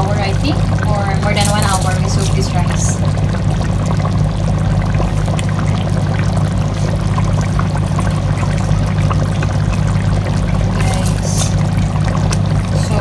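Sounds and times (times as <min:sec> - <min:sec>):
pot boiling and bubbling: 0:00.0 - 0:13.0
steady low hum: 0:00.0 - 0:13.0.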